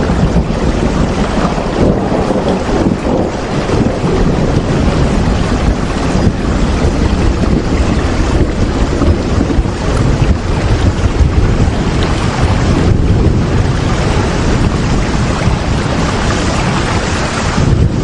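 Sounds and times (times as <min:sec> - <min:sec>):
deep rumble: 0:00.0 - 0:18.0
heavy rain: 0:00.0 - 0:18.0.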